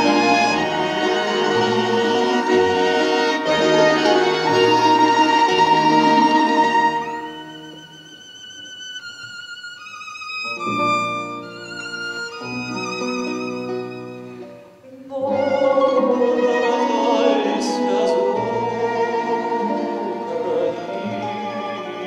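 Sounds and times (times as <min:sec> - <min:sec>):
violin: 0:00.0 - 0:22.0.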